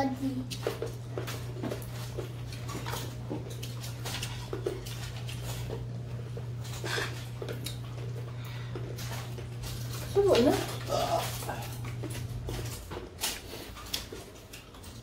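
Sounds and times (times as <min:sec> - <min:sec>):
steady low hum: 0:00.0 - 0:15.0
chewing mouths smacking: 0:00.5 - 0:15.0.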